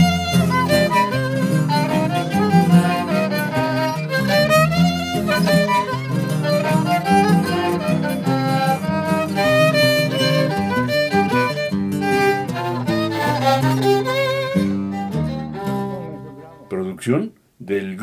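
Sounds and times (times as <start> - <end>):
violin melody: 0.0 - 17.0
string accompaniment: 0.0 - 17.3.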